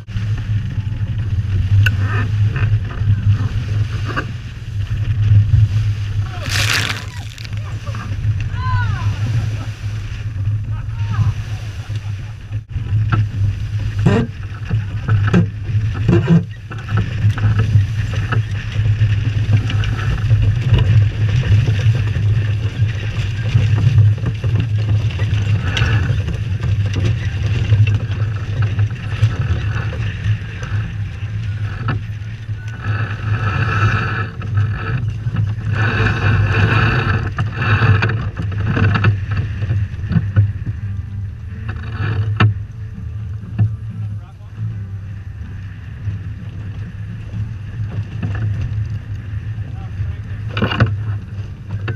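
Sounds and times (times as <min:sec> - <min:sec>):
water rushing along hull: 0:00.0 - 0:51.9.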